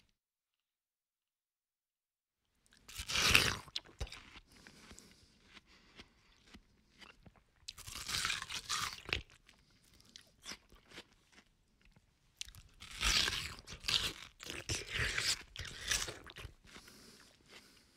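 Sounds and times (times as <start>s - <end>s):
crunchy watermelon bites: 2.8s - 17.8s.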